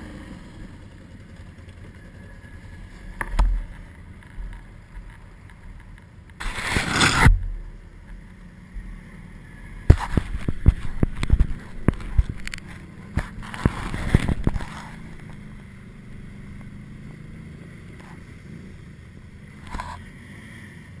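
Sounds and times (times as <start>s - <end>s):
atv engine running: 0.0s - 6.7s, 7.3s - 21.0s.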